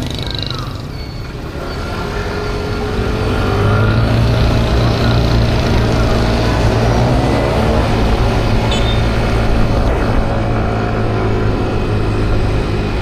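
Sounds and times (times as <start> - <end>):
low road rumble: 0.0 - 13.0
motorbike engine running: 2.1 - 13.0.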